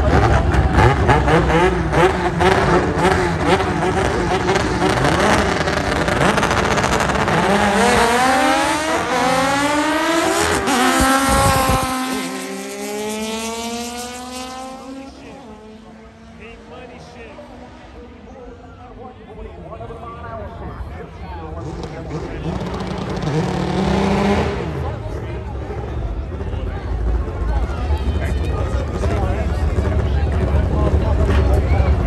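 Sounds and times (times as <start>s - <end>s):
race car engine accelerating: 0.0s - 19.2s, 19.8s - 32.0s.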